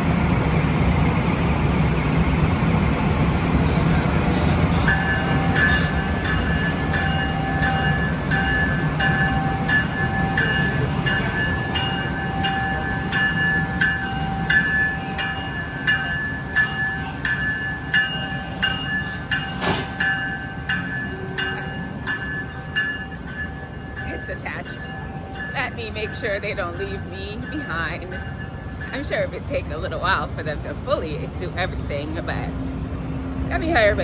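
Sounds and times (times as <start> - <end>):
low train rumble: 0.0 - 34.0
locomotive bell ringing: 4.0 - 34.0.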